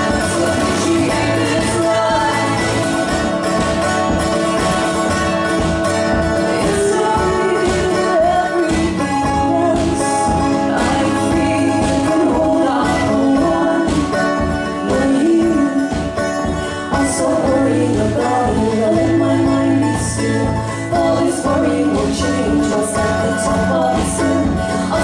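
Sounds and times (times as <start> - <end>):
woman singing: 0.0 - 3.4, 6.2 - 25.0
mandolin: 0.0 - 25.0
strummed acoustic guitar: 0.0 - 25.0.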